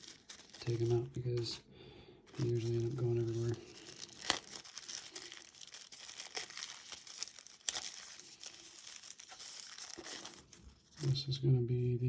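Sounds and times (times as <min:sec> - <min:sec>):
plastic bags crinkling: 0:00.0 - 0:01.6, 0:02.3 - 0:11.2.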